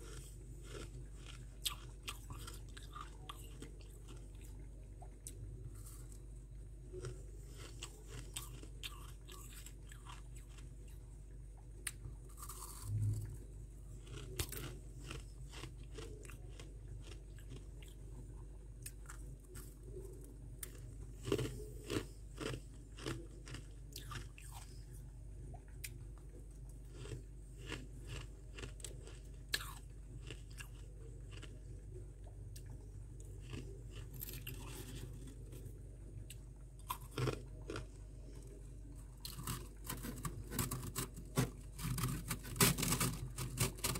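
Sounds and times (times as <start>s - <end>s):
chewing and crunching frost: 0.0s - 43.9s.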